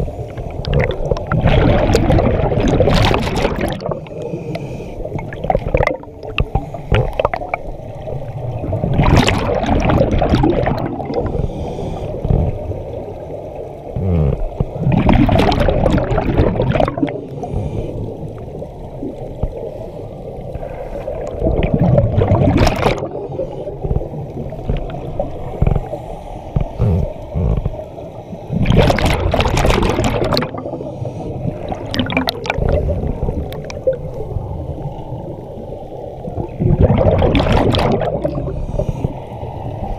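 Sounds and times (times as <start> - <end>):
low rumble of water: 0.0 - 39.9
underwater air bubbling: 0.0 - 39.9.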